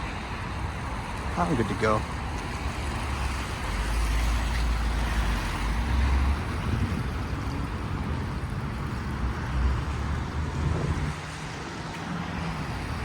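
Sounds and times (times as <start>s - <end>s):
traffic on wet roads: 0.0s - 13.0s.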